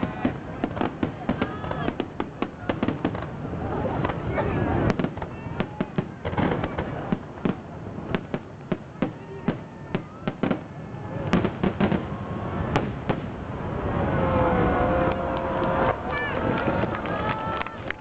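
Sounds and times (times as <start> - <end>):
crowd noise: 0.0 - 18.0
fireworks bursting: 0.0 - 18.0.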